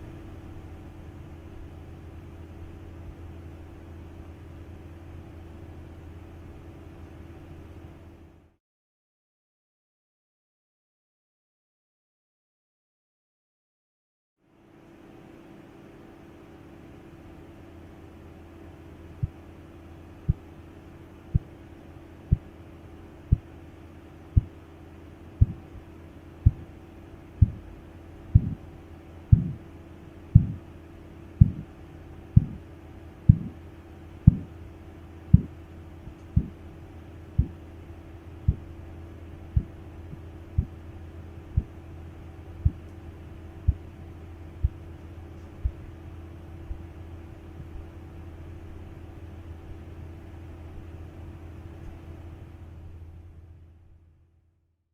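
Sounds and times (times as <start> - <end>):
steady low hum: 0.0 - 8.6, 14.4 - 54.6.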